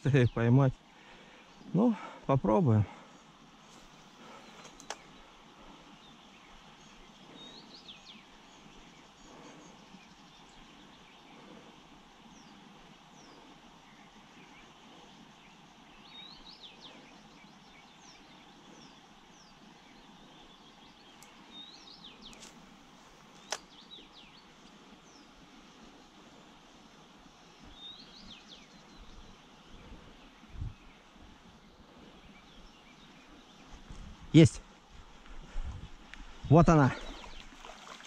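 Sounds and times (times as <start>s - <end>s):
outdoor hush: 0.0s - 38.0s
small birds singing: 0.0s - 38.0s.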